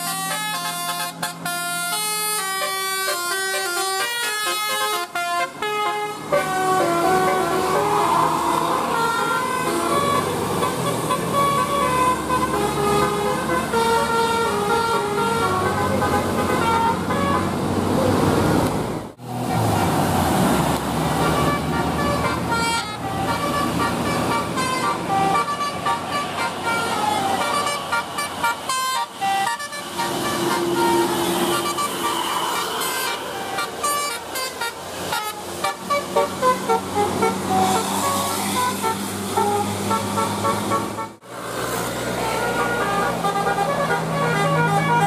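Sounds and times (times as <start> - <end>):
multi-tone bus horn tune: 0.0 - 17.7, 21.1 - 41.3, 41.9 - 45.0
bus engine noise: 0.0 - 45.0.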